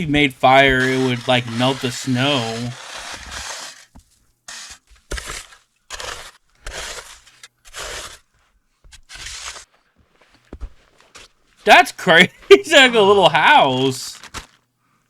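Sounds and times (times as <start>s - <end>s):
snow being scraped by hand: 0.0s - 8.3s, 8.9s - 14.6s.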